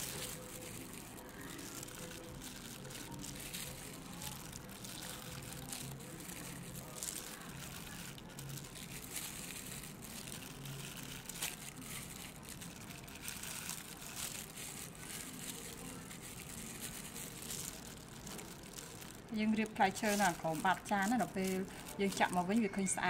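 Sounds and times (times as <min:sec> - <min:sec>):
plastic glove rustling: 0:00.0 - 0:23.0.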